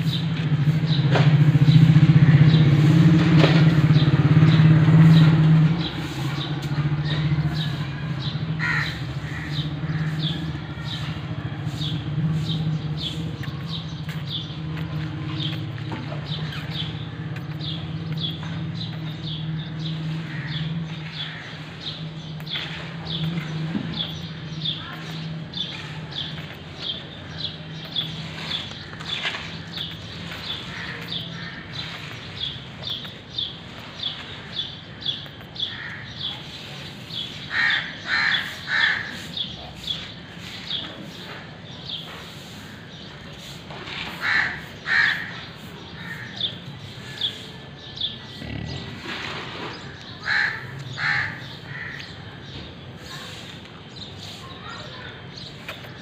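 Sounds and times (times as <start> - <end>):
harsh bird calls: 0.0 - 56.0.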